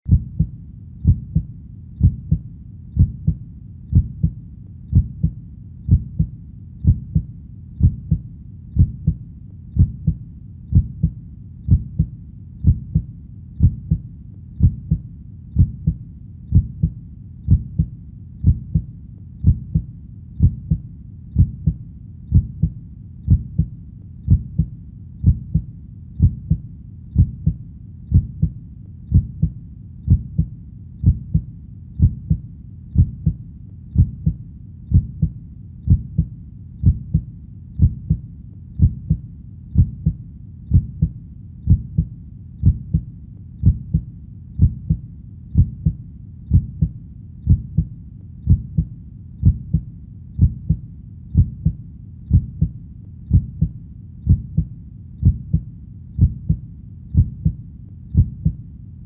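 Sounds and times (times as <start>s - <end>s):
heartbeat thumps: 0.1s - 58.6s.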